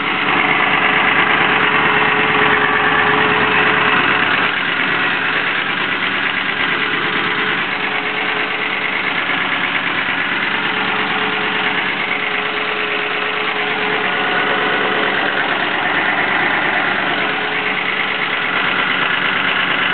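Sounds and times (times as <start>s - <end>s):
engine idling: 0.0s - 19.9s.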